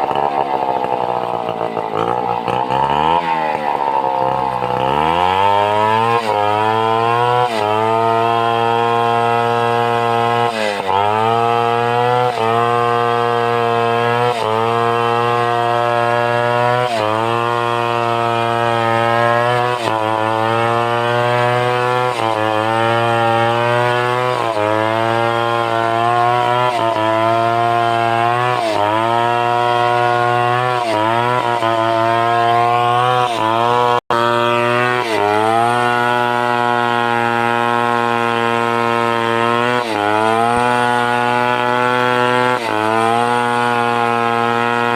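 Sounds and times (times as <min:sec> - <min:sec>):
chainsaw cutting timber: 0:00.0 - 0:44.9.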